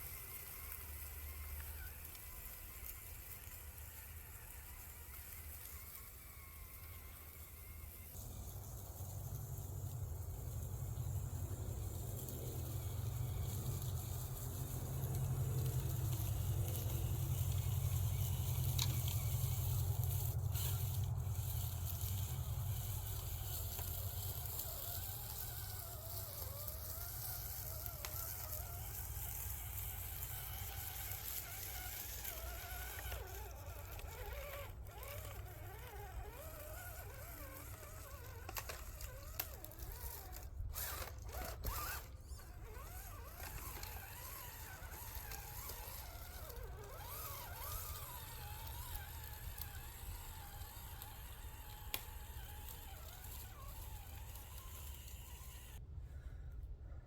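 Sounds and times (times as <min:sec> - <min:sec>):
small electric motor whining: 0:00.0 - 0:55.8.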